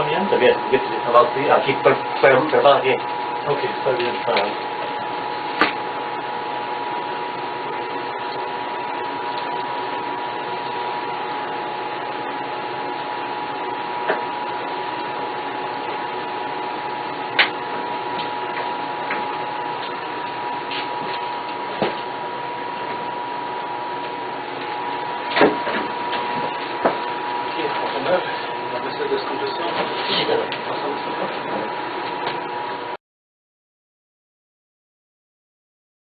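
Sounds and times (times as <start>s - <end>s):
machine hum with high tone: 0.0s - 33.0s.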